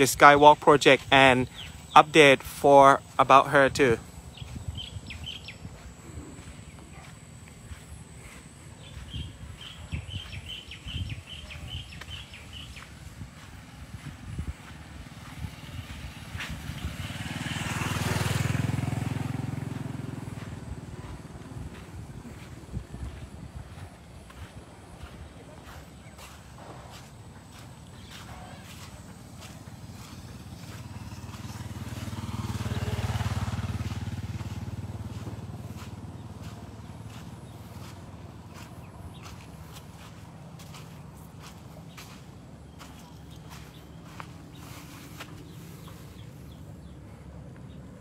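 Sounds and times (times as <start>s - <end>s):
small motorbike passing: 0.0s - 48.0s.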